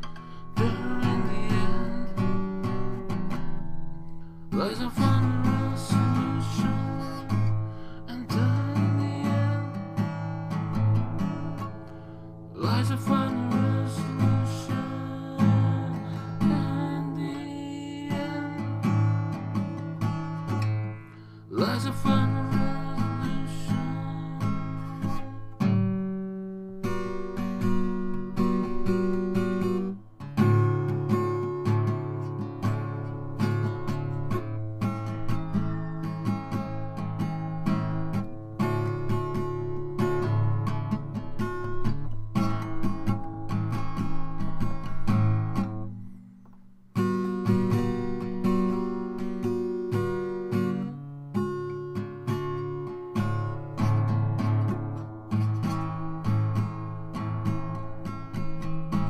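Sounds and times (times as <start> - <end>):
acoustic guitar strumming chords: 0.0 - 59.0.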